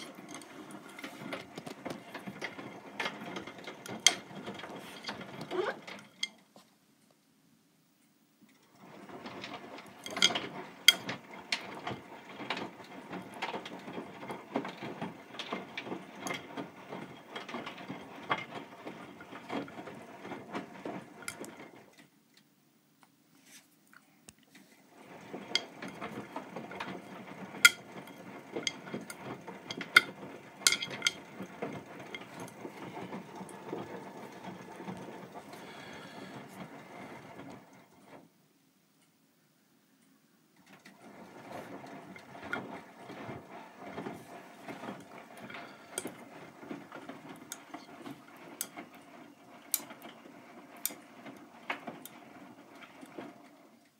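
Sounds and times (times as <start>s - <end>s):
washing machine drum clattering: 0.0s - 6.4s, 8.7s - 21.9s, 24.9s - 38.2s, 40.7s - 53.9s
faint machine hum: 0.0s - 53.9s.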